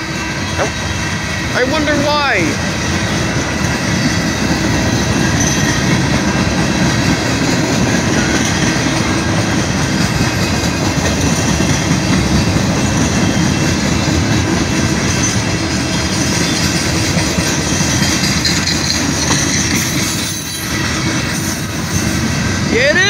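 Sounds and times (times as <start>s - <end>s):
freight train wheels rumbling on rails: 0.0s - 23.0s.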